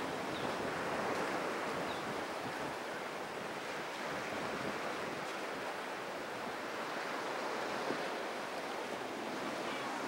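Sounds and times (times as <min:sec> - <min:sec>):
surf and churned water: 0:00.0 - 0:10.0.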